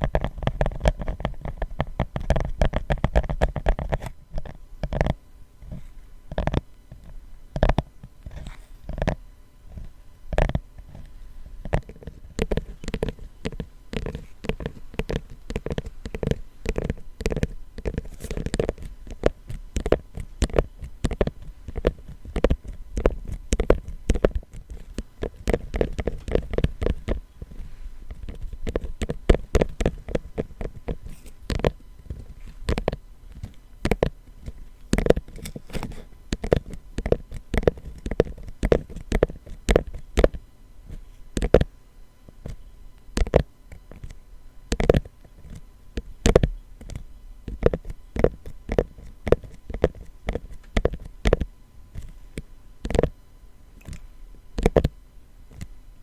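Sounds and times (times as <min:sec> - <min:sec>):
fingers tapping on box: 0:00.0 - 0:41.7, 0:42.4 - 0:52.1, 0:52.8 - 0:53.2, 0:54.6 - 0:55.7.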